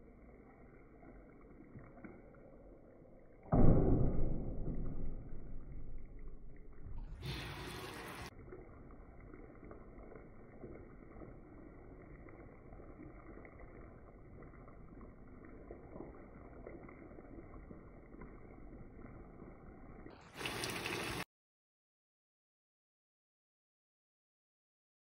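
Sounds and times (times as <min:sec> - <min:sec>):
sauce bubbling in a frying pan: 0:00.0 - 0:03.8, 0:04.4 - 0:21.3.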